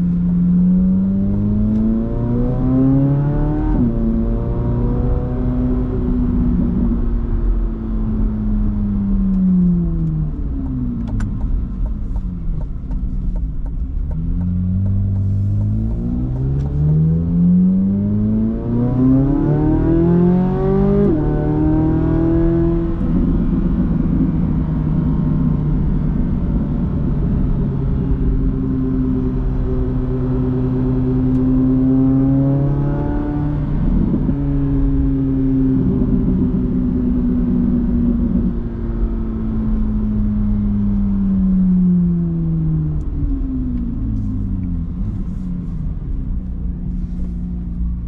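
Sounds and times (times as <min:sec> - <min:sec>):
sports car engine accelerating: 0:00.0 - 0:48.0.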